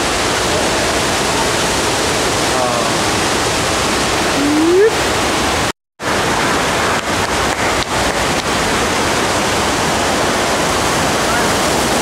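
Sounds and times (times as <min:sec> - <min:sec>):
rushing churning water: 0:00.0 - 0:12.0.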